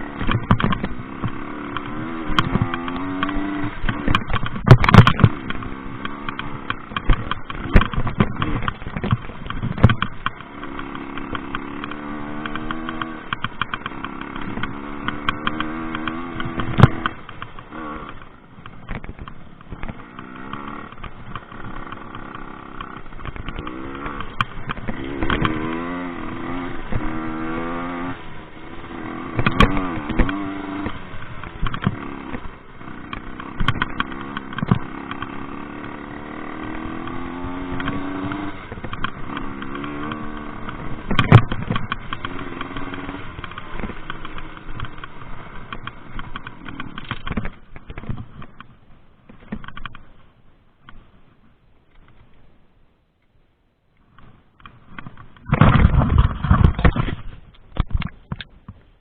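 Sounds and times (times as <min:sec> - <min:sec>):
two-stroke engine revving: 0:00.0 - 0:48.3.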